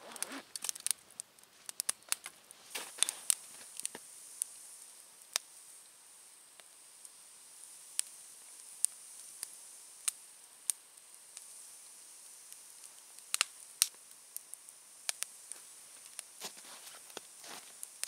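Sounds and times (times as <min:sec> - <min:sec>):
faint steady hiss: 0:00.0 - 0:18.0
wood fire crackling: 0:00.0 - 0:18.0.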